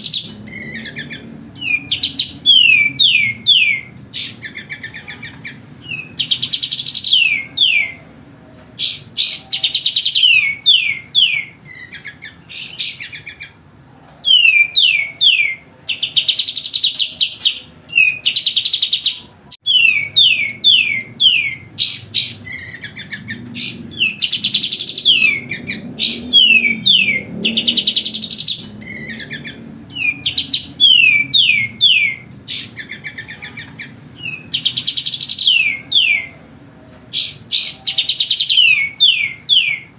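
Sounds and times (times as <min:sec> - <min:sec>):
songbird whistling song: 0:00.0 - 0:39.9.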